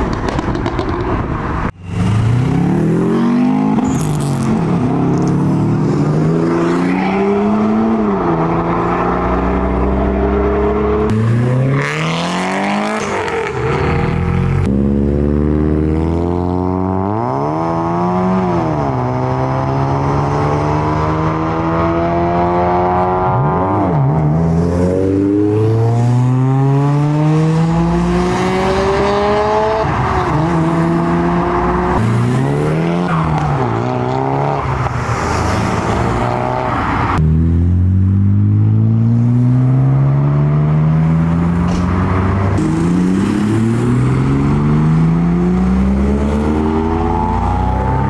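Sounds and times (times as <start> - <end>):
cars accelerating hard: 0.0 - 48.0.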